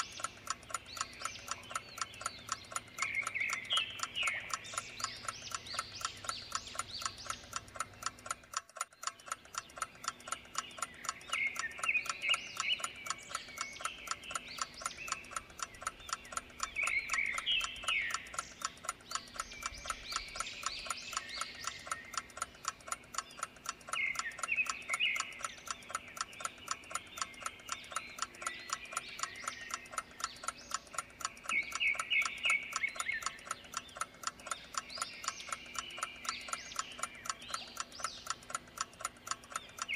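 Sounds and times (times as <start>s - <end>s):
bursts of chirping: 0.0s - 39.9s
clock ticking: 0.0s - 39.9s.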